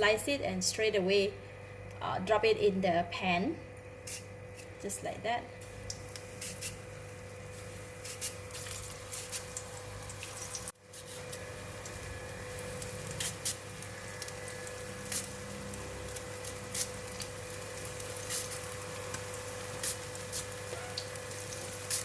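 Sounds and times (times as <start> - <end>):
food deep-frying in hot oil: 3.9 - 22.0.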